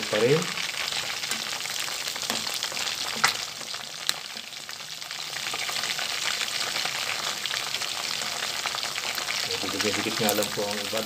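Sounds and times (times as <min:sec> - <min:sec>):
oil frying crackling sizzle: 0:00.0 - 0:11.0.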